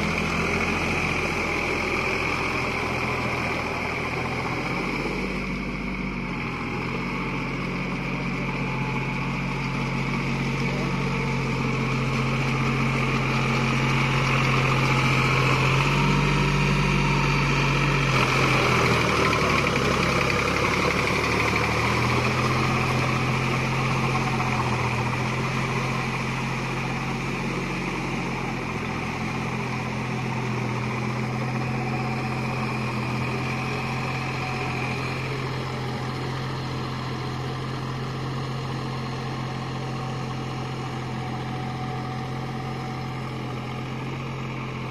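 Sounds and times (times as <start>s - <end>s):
tractor diesel engine under load: 0.0s - 44.9s.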